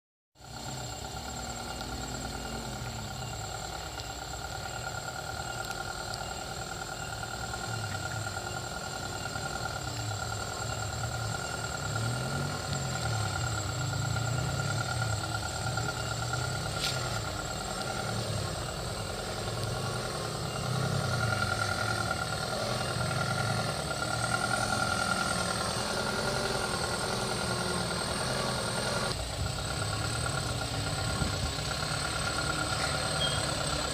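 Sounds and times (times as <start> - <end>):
motor running with whine: 0.4 - 33.9.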